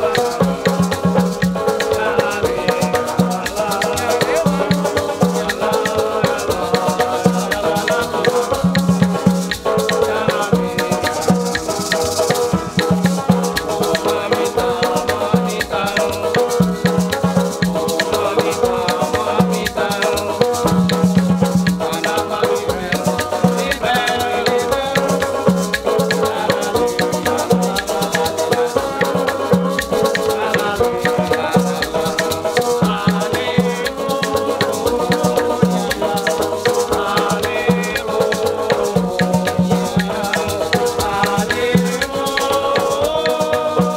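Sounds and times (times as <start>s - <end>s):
acoustic guitar strumming: 0.0s - 43.9s
banjo strumming: 0.0s - 43.9s
maraca shaking: 0.0s - 43.9s
men singing: 0.0s - 43.9s.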